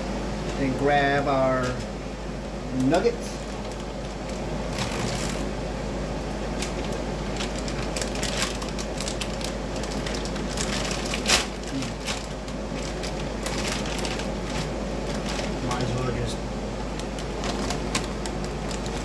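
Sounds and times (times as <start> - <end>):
plastic bag crinkling: 2.8 - 5.5, 6.4 - 19.0.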